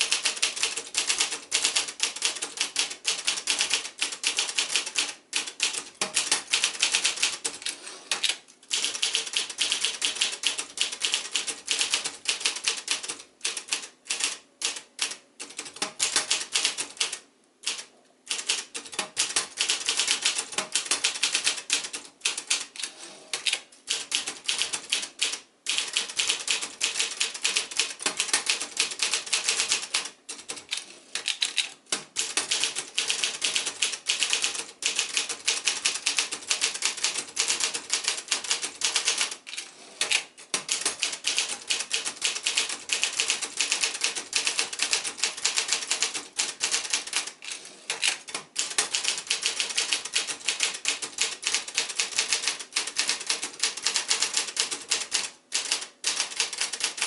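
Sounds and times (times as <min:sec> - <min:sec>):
typewriter carriage return: 0:00.0 - 0:14.8, 0:15.4 - 0:57.0
typewriter keys clacking: 0:00.0 - 0:57.0.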